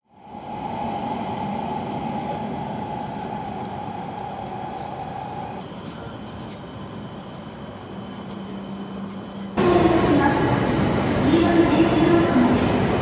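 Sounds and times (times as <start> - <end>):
station platform rumble: 0.1 - 13.0.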